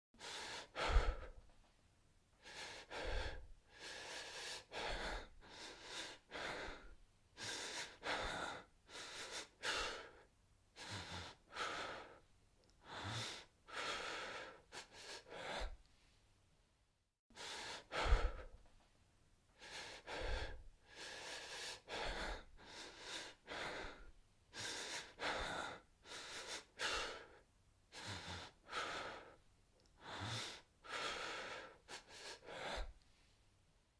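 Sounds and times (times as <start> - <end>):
man breathing hard: 0.2 - 1.6, 2.4 - 15.8, 17.3 - 18.8, 19.5 - 33.0.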